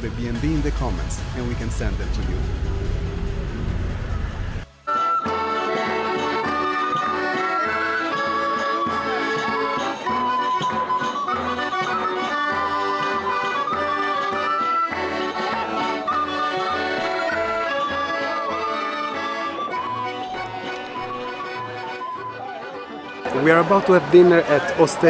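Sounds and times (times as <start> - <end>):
folk-style music with beat: 0.0 - 25.0.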